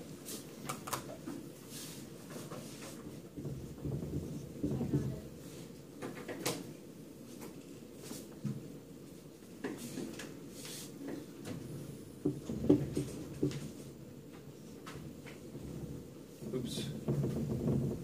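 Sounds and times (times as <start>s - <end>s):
low room noise: 0.0s - 18.0s.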